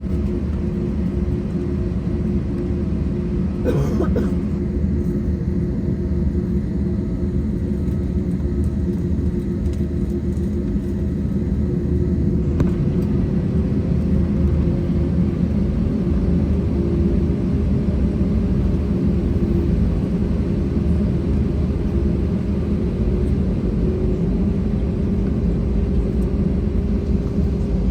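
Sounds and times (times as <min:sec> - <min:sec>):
jet engines running: 0:00.0 - 0:27.9.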